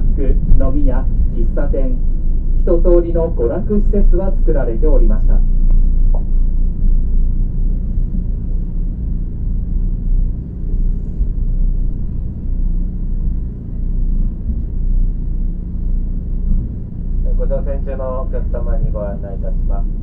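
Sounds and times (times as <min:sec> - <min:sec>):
boat engine low drone: 0:00.0 - 0:20.0.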